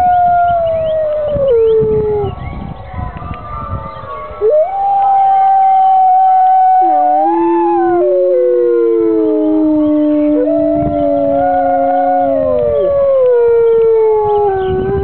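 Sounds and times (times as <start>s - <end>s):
wolves howling: 0.0s - 15.0s.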